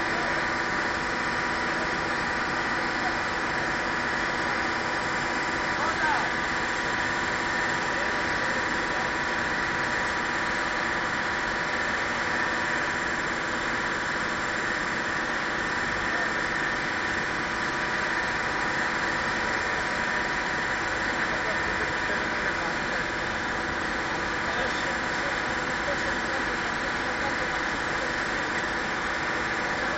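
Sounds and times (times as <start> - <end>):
engine running steadily: 0.0 - 29.9.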